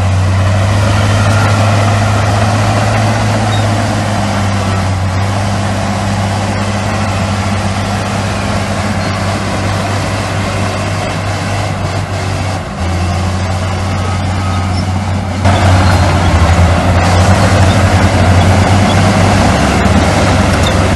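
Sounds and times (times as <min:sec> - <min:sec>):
diesel engine humming: 0:00.0 - 0:20.9.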